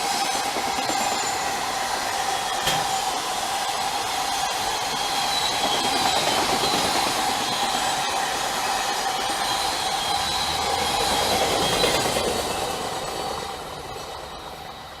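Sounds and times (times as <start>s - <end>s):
faint high wheel squeals: 0.0s - 15.0s
train rolling on tracks: 0.0s - 15.0s.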